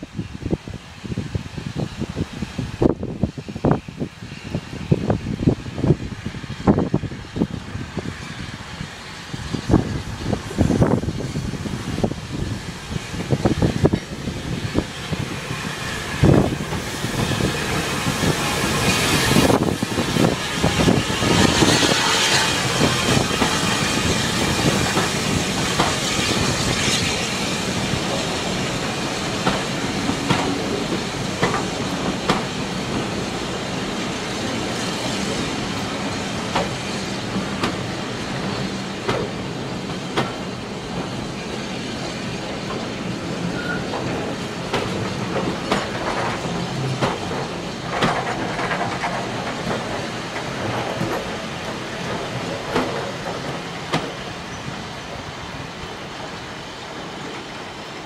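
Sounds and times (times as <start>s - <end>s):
loud hiss of steam: 0.0s - 58.0s
steam locomotive hauling coaches: 0.0s - 58.0s
coach wheels clicking over rail joints: 9.4s - 56.4s.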